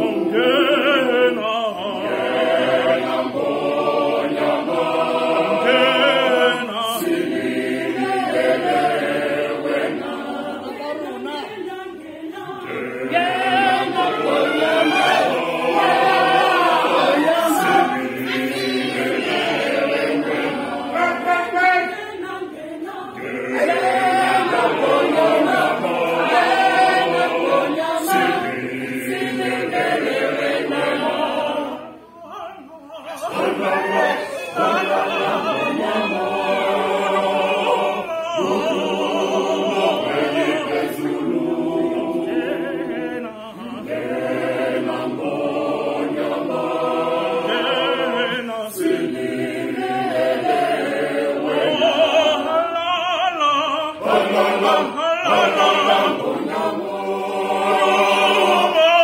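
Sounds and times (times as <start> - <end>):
mixed choir singing a cappella: 0.0 - 59.0.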